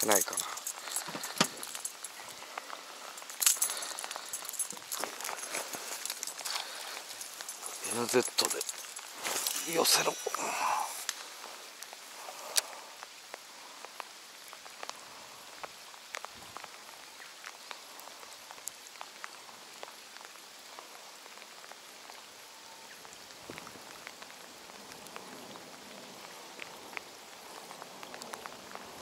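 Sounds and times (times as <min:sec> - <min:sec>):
rain falling on a lake: 0:00.0 - 0:29.0.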